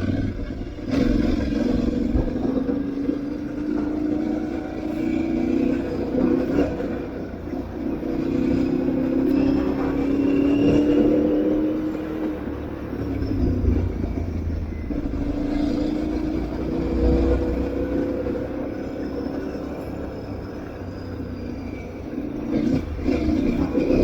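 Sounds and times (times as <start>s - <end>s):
low rumble of wind: 0.0s - 24.0s
motorcycle engine running: 0.0s - 24.0s.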